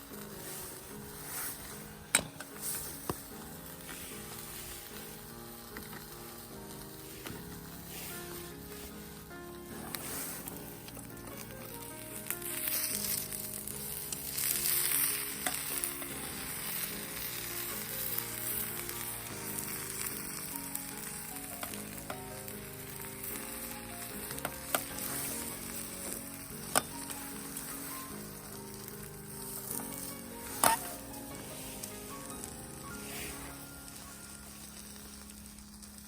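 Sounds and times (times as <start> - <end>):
food sizzling in frying pan: 0.0 - 36.0
soft background music: 0.0 - 36.0.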